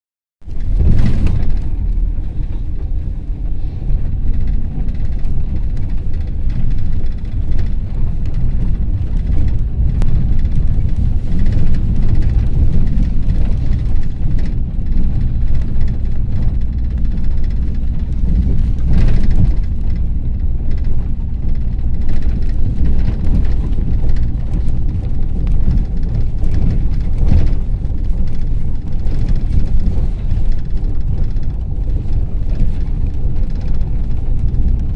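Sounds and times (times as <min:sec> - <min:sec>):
engine and road rumble: 0:00.4 - 0:34.9
body knocks and rattles: 0:00.5 - 0:34.9.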